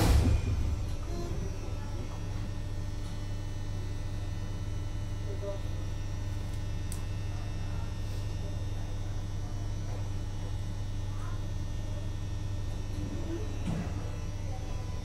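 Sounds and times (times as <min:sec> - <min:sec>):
electrical equipment humming: 0:00.0 - 0:15.0.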